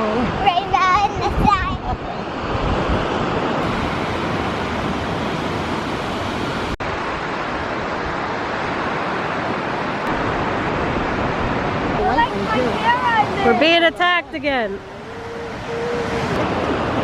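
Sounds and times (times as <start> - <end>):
ocean surf washing ashore: 0.0 - 17.0
wind buffeting microphone: 0.0 - 17.0.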